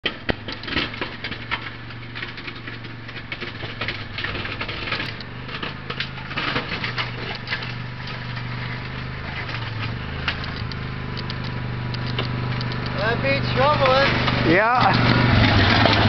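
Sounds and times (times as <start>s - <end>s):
crackles and clicks: 0.0s - 16.0s
quad engine humming: 0.0s - 16.0s.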